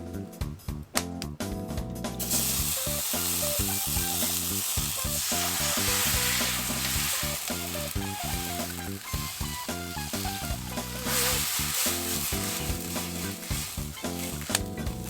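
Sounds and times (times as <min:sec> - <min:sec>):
background music: 0:00.0 - 0:15.0
food sizzling in a wok: 0:02.2 - 0:15.0.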